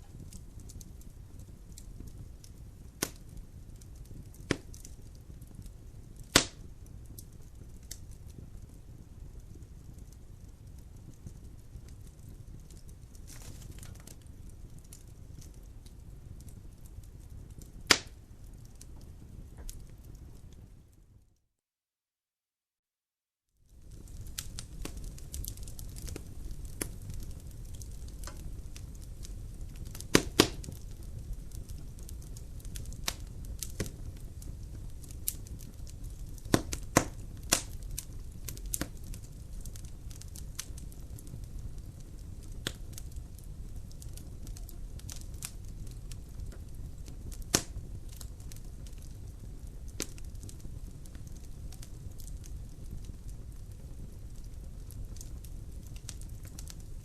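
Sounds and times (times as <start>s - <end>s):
burning logs popping: 0.0s - 21.0s, 23.7s - 57.0s
faint fire ticks: 0.0s - 21.0s, 23.7s - 57.0s
fire low rumble: 0.0s - 21.4s, 23.6s - 57.0s.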